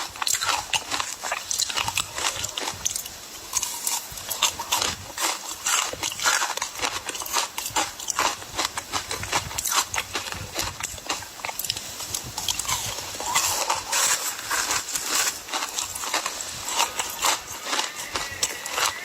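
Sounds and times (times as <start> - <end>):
ice being chewed and crunched: 0.0 - 19.0.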